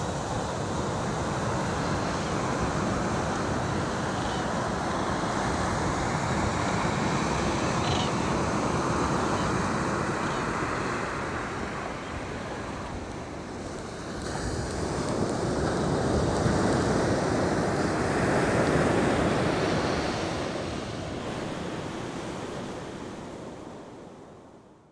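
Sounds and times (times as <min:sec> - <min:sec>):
ocean surf washing: 0:00.0 - 0:24.7.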